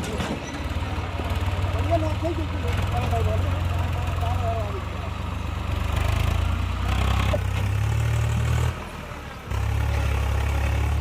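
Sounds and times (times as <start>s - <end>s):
tractor diesel engine humming: 0.0s - 11.0s.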